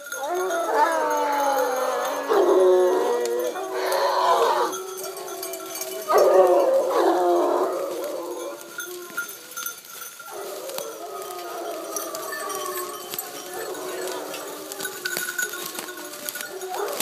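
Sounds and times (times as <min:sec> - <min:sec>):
hounds baying: 0:00.0 - 0:17.0.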